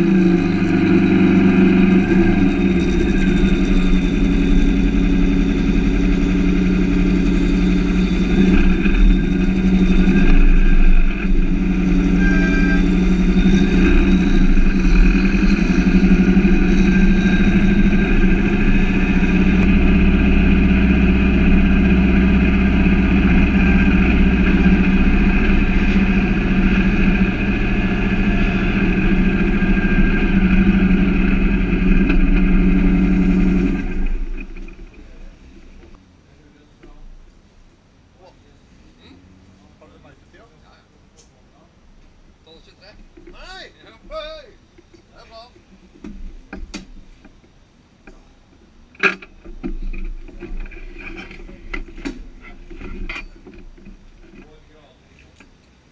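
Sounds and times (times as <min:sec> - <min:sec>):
car engine running at low revs: 0:00.0 - 0:55.1.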